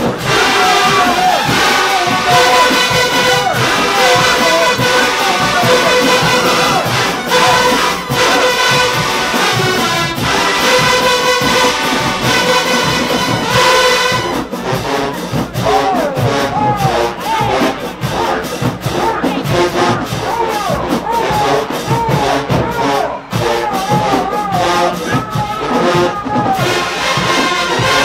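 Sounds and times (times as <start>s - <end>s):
brass section holding chords: 0.0s - 28.0s
drum strikes: 0.0s - 28.0s
voices: 0.0s - 28.0s.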